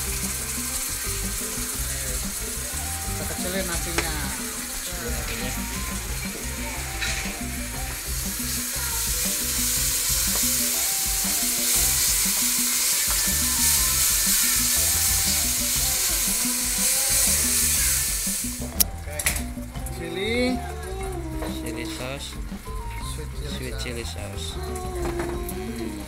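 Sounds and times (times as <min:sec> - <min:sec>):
onions frying sizzle: 0:00.0 - 0:26.0.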